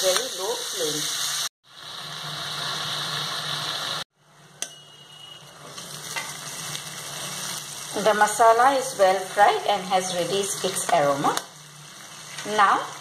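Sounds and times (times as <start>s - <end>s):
paste sizzling in oil: 0.0s - 4.1s, 5.5s - 13.0s.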